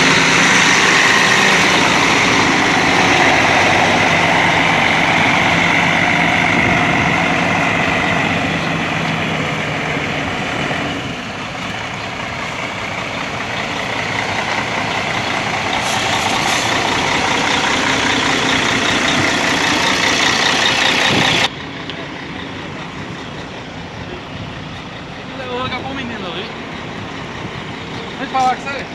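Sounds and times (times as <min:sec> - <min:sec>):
diesel bus engine running: 0:00.0 - 0:28.9.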